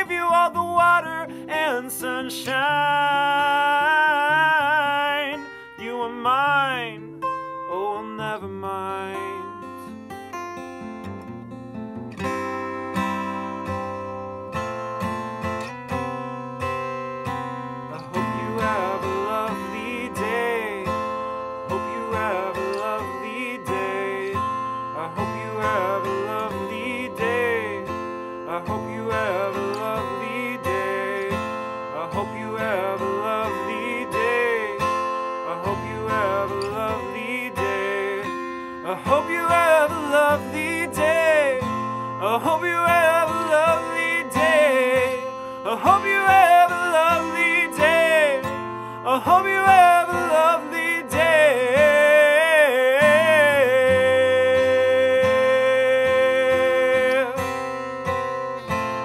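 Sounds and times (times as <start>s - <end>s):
man singing wordlessly: 0.0s - 9.8s, 17.9s - 57.7s
acoustic guitar strumming: 0.0s - 59.0s.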